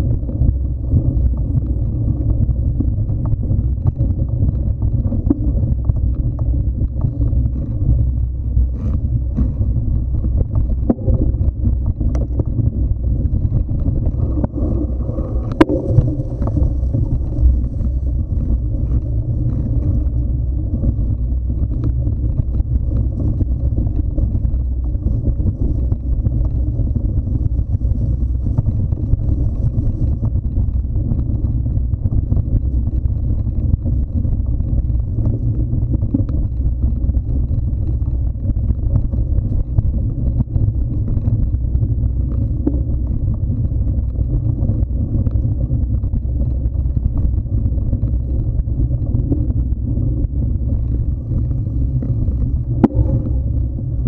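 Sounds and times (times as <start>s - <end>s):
faint clicks and rattles: 0.0s - 54.0s
trail vibration rumble: 0.0s - 54.0s
wind buffeting microphone: 0.0s - 54.0s.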